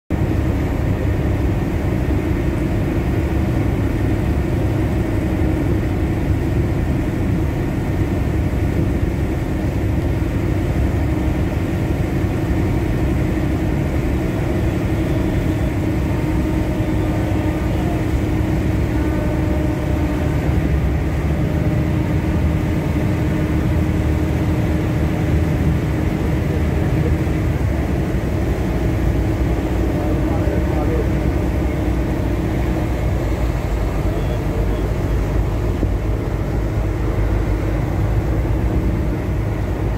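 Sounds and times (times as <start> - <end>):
boat engine droning: 0.1 - 39.9
rushing water: 0.1 - 39.9.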